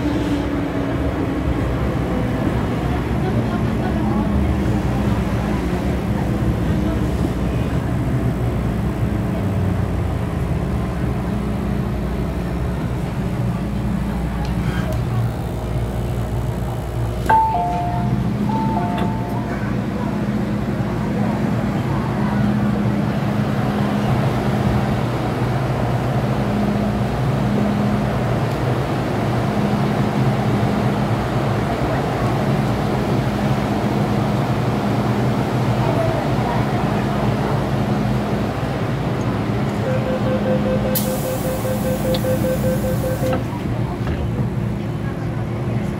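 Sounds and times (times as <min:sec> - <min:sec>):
electric train rumbling: 0:00.0 - 0:45.9.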